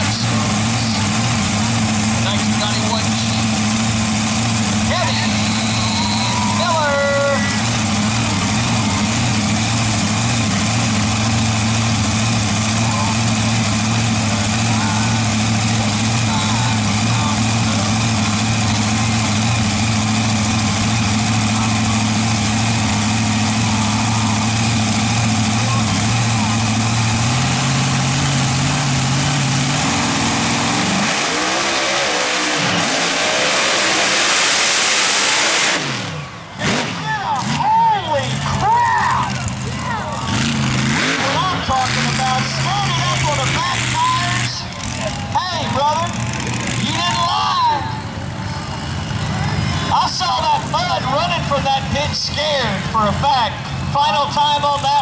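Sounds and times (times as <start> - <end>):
loud rush through mud: 0.0 - 45.2
truck engine idling: 0.0 - 55.0.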